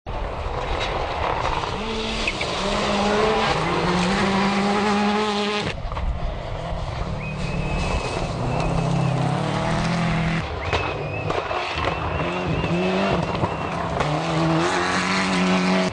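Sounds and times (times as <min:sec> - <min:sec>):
rally car engine upshifting: 0:00.6 - 0:15.9.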